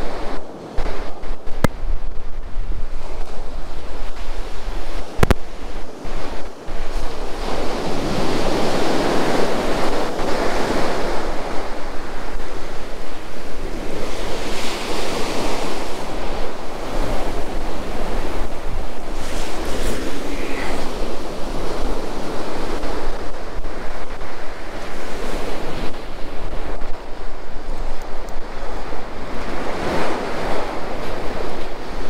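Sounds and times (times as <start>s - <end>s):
sea surf breaking on shore: 0.0s - 32.0s
wind buffeting microphone: 0.0s - 32.0s.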